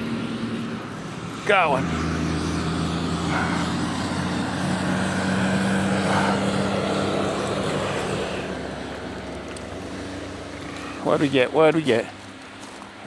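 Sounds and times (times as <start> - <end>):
aircraft engine drone overhead: 0.0 - 13.0.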